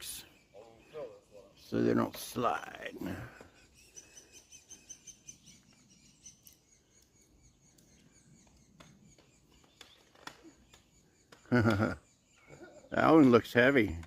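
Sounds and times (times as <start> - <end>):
high bird chirps: 0.0 - 13.7.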